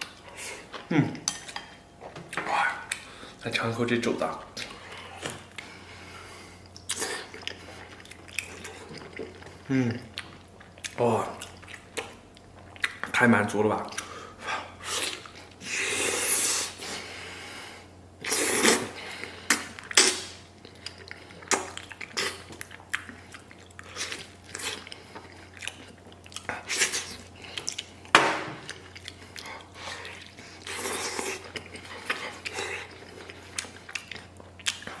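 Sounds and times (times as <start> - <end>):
person chewing: 0.0 - 3.3, 4.4 - 13.1, 13.9 - 17.1, 18.2 - 35.0.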